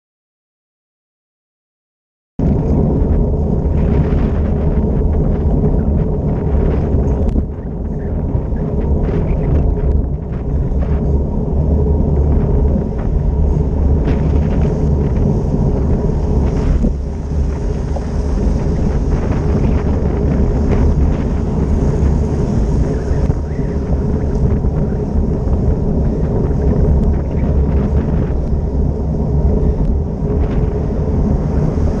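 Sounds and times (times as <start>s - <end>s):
wind rumble on microphone: 2.4s - 32.0s.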